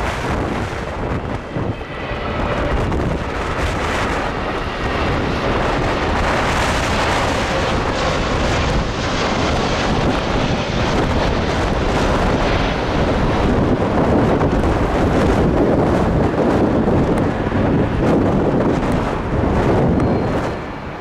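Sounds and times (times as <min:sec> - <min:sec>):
jet engines of passing airliner: 0:00.0 - 0:21.0
wind buffeting microphone: 0:00.0 - 0:21.0.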